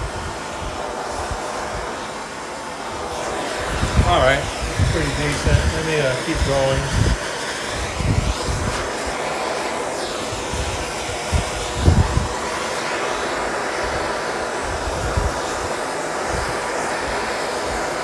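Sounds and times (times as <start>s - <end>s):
gas torch hissing: 0.0s - 18.0s.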